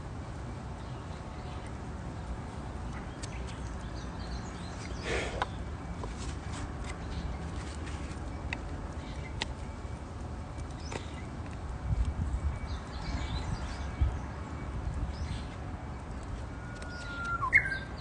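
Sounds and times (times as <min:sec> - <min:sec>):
rustle: 0:00.0 - 0:18.0.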